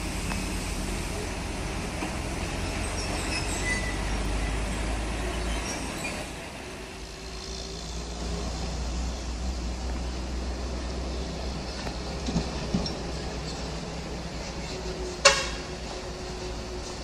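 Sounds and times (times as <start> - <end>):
diesel truck engines pulling uphill: 0.0 - 17.0.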